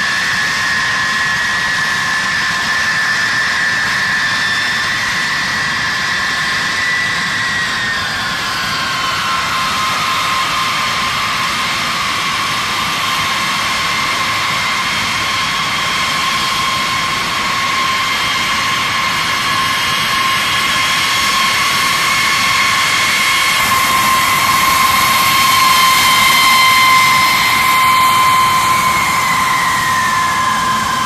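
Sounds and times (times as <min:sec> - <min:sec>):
jet engines rushing with whine: 0:00.0 - 0:31.0.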